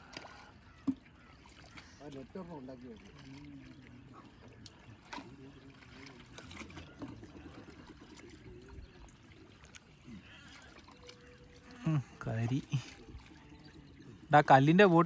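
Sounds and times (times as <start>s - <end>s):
shallow water sloshing: 0.0s - 15.0s
faint voices: 1.3s - 14.3s.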